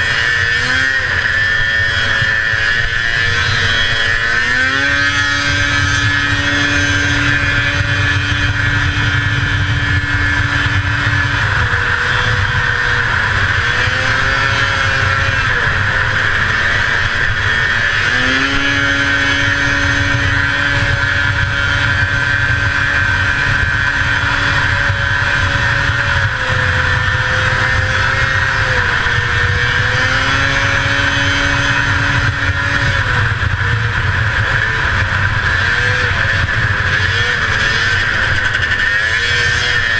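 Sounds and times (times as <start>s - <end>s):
track rumble: 0.0s - 39.9s
wind rush: 0.0s - 39.9s.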